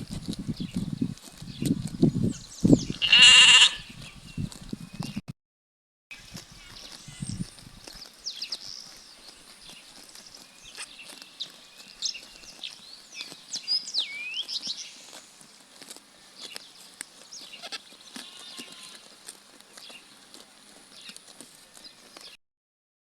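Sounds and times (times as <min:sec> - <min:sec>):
sheep chewing grass: 0:00.0 - 0:05.2, 0:06.2 - 0:22.4.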